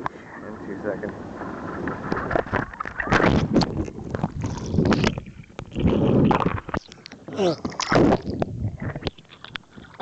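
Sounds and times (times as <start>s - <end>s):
water splashing around kayak: 0.0s - 10.0s
wind on microphone: 0.5s - 10.0s.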